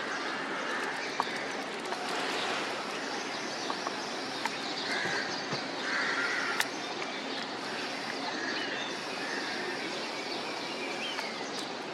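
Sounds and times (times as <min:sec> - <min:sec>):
birds calling: 0:00.0 - 0:11.9
steady background hiss: 0:00.0 - 0:11.9.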